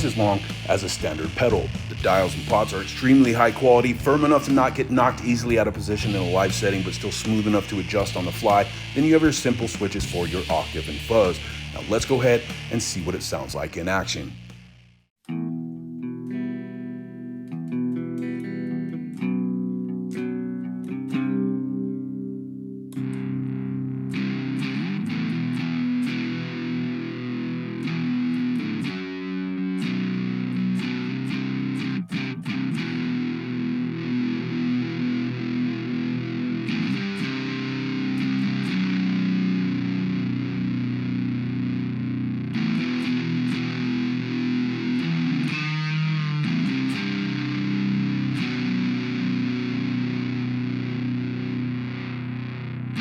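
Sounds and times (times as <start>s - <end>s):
fuzz electric guitar riff: 0.0s - 53.0s.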